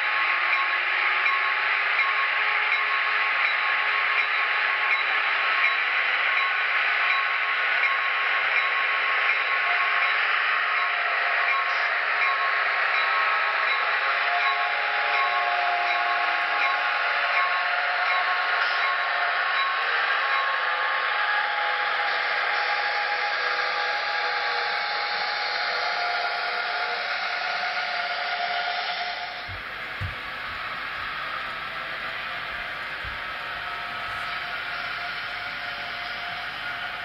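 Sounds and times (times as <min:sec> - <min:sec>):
model locomotive diesel engine sound: 0:00.0 - 0:37.0
model train running on track: 0:00.0 - 0:37.0.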